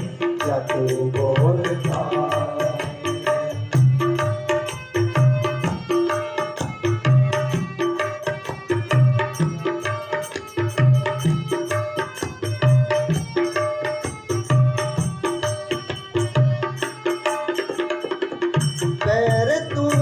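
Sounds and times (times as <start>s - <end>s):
hand drum rhythm: 0.0s - 20.0s.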